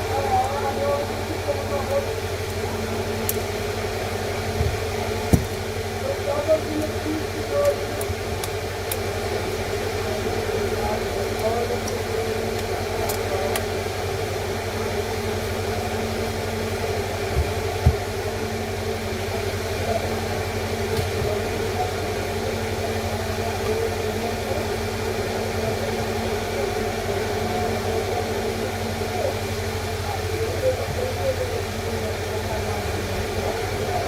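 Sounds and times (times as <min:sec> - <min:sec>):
steady machine hum: 0:00.0 - 0:34.0.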